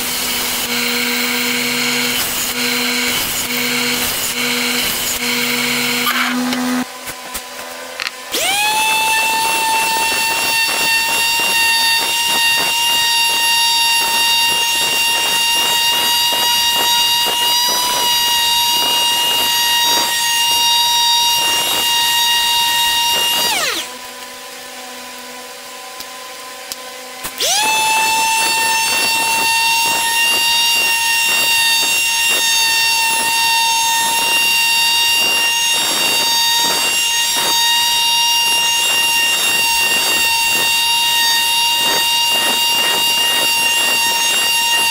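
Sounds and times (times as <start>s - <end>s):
sander pad scratching wood: 0.0s - 24.0s, 27.4s - 44.9s
palm sander whining: 0.0s - 44.9s.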